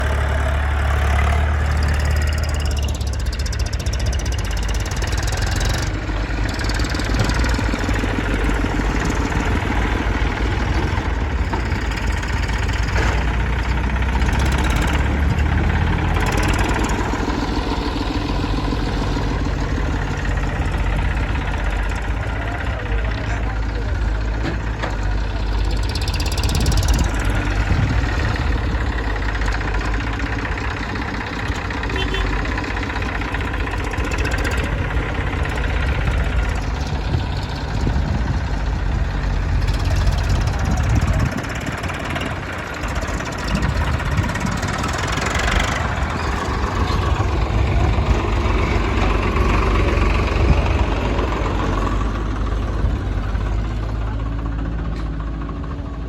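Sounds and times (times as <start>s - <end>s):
loader diesel engine working: 0.0s - 56.0s
tractor diesel engine: 0.0s - 56.0s.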